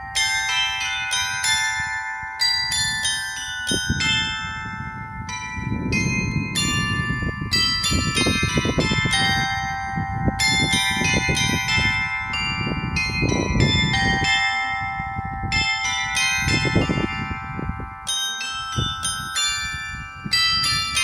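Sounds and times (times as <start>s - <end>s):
carillon bells playing melody: 0.0s - 21.0s.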